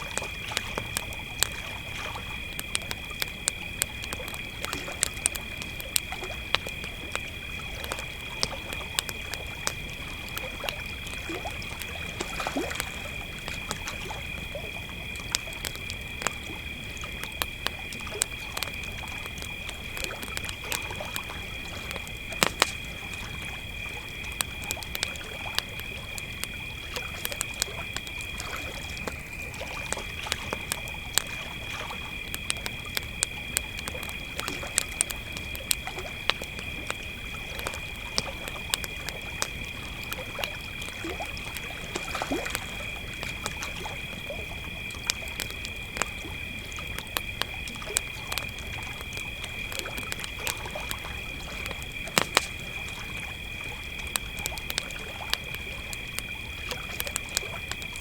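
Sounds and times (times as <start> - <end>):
campfire crackling and popping: 0.0 - 58.0
crickets trilling: 0.0 - 58.0.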